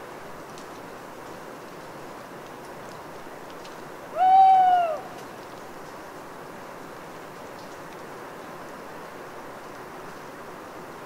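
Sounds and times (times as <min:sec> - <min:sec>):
rainwater dripping from trees: 0:00.0 - 0:11.0.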